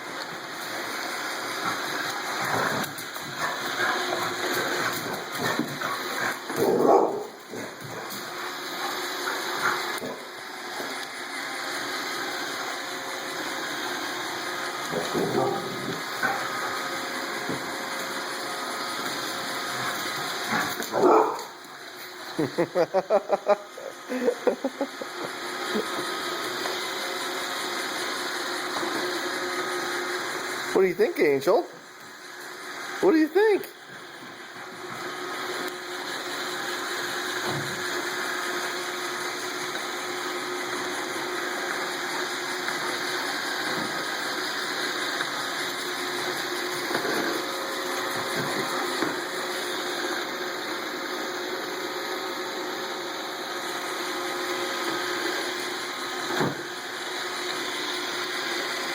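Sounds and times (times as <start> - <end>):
robot vacuum whirring: 0.2 - 22.8, 32.0 - 58.9.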